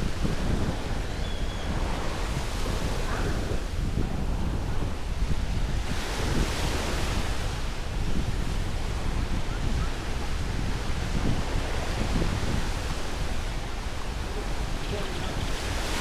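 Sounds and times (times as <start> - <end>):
ocean surf on sandy beach: 0.0 - 16.0
wind rumbling on microphone: 0.0 - 16.0.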